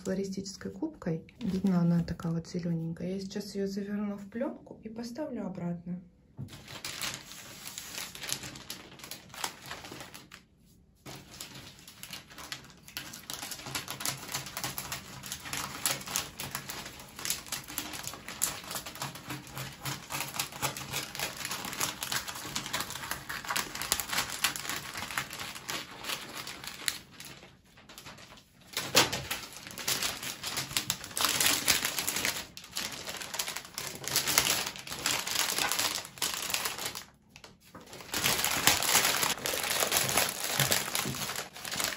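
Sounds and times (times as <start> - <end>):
plastic film crinkling: 1.4 - 2.2, 6.5 - 41.9.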